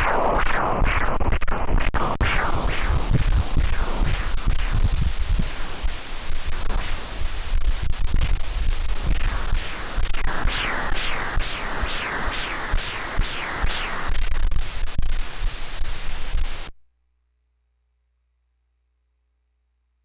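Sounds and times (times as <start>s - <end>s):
ultrasound whooshing pulses: 0.0s - 16.6s
scratchy hiss: 0.0s - 16.8s.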